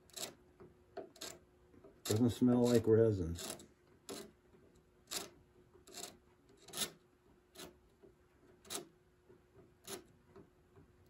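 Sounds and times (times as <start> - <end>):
chisel scraping wood: 0.0 - 0.4, 1.0 - 9.0, 9.7 - 10.2.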